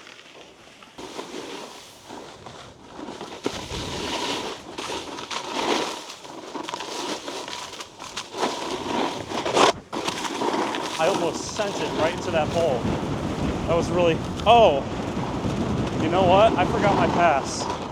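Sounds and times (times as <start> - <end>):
snowboard scraping over icy snow: 0.0 - 17.9.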